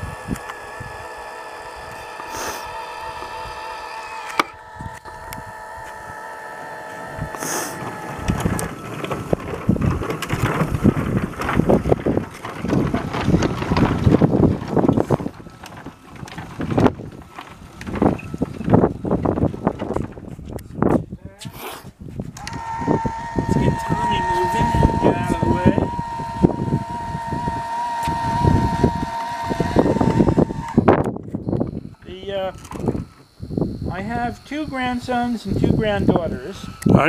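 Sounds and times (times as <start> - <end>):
multi-tone whine: 0.0 - 20.8, 22.4 - 37.0.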